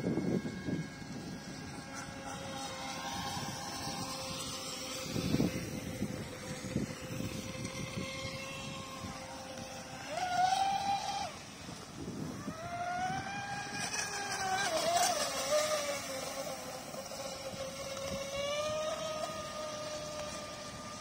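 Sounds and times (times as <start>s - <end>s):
rc speedboat motors whining: 0.0s - 21.0s
water noise: 0.0s - 21.0s
wind: 0.0s - 21.0s.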